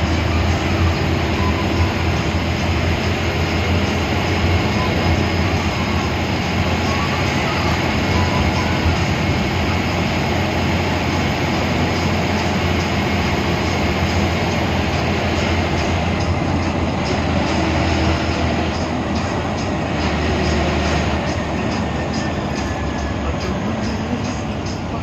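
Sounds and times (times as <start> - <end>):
bus engine hum: 0.0 - 25.0
road noise: 0.0 - 25.0.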